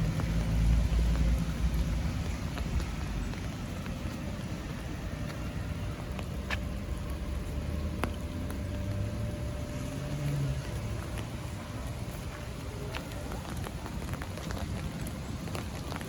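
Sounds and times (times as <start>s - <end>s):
vehicle engine passing: 0.0s - 13.4s
raindrops ticking: 0.0s - 16.0s
road traffic rumble: 0.0s - 16.0s.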